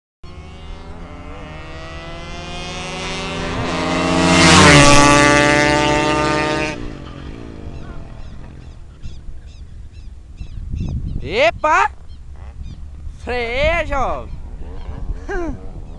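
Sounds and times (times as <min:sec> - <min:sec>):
motorcycles accelerating: 0:00.2 - 0:10.5, 0:12.1 - 0:15.9.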